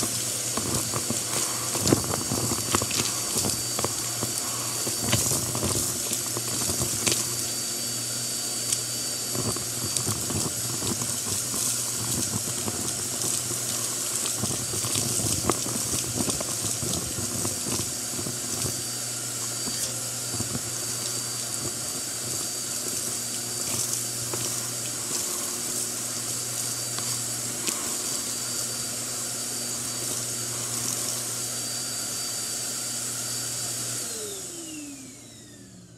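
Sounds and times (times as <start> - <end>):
grit rattling up vacuum hose: 0.0 - 34.0
vacuum cleaner running: 0.0 - 35.9
vacuum motor winding down: 0.0 - 35.9.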